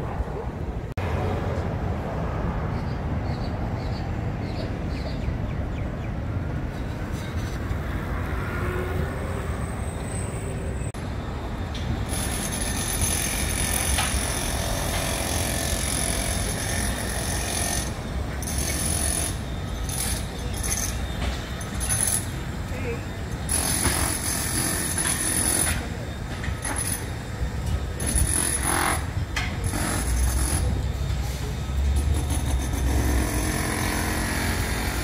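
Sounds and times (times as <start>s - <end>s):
low rumble of traffic: 0.0s - 35.0s.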